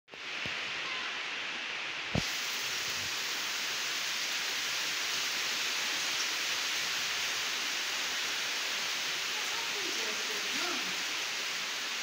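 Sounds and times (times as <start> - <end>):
steady rain: 0.1 - 12.0.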